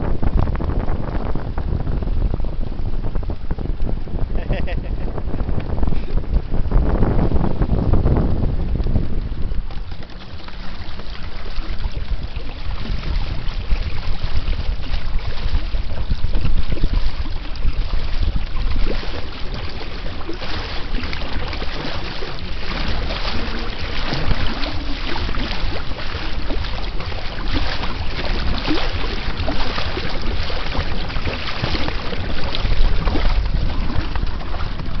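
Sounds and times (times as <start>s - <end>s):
water splashing along hull: 0.0s - 35.0s
wind buffeting microphone: 0.0s - 35.0s.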